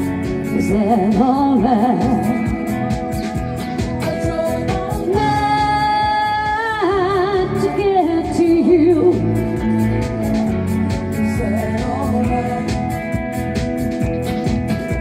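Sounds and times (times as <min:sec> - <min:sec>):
woman singing pop: 0:00.0 - 0:13.4.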